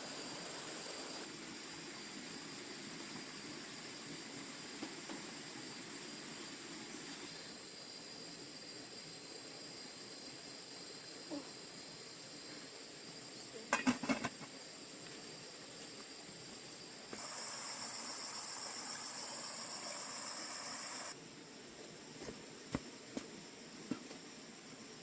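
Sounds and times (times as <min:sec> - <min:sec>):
dense insect buzz: 0:00.0 - 0:25.0
insects chirring: 0:00.0 - 0:25.0.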